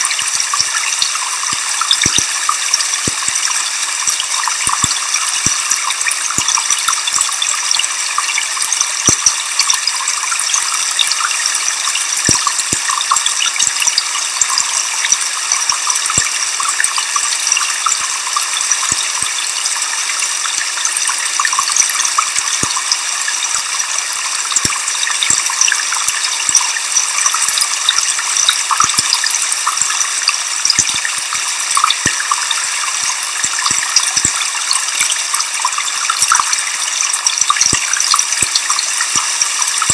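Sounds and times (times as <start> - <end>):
spray ticks: 0.0 - 39.9.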